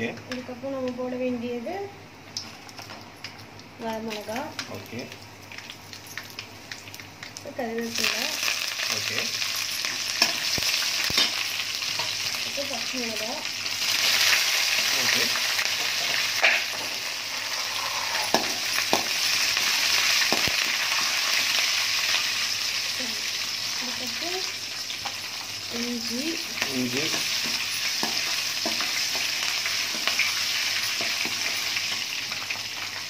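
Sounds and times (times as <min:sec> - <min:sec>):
loud sizzle of frying: 0:00.0 - 0:33.0.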